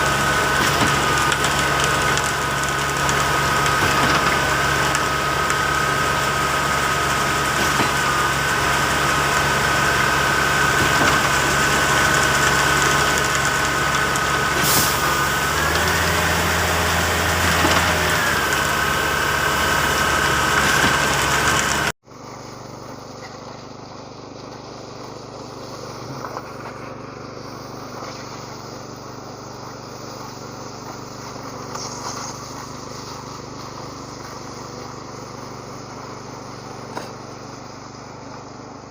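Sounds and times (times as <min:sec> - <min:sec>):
engine hum: 0:00.0 - 0:38.9
heavy engine high whine: 0:00.0 - 0:38.9.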